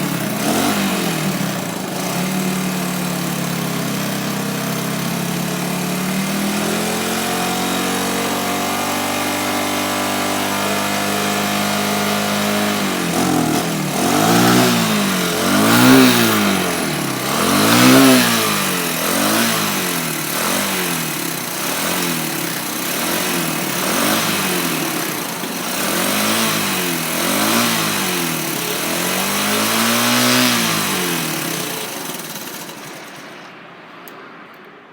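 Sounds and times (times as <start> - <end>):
motorcycle engine idling and revving: 0.0 - 34.6.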